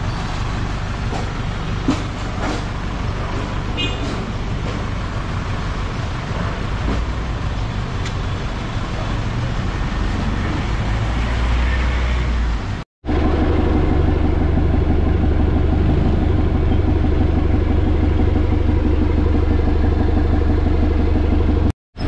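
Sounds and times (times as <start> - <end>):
vehicle engines idling: 0.0 - 11.2, 12.4 - 21.7.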